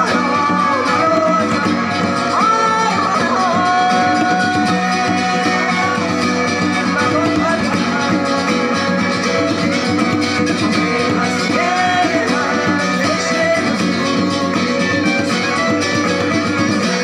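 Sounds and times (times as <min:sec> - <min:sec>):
djembe drum: 0:00.0 - 0:17.0
plucked guitars: 0:00.0 - 0:17.0
violin: 0:00.0 - 0:17.0.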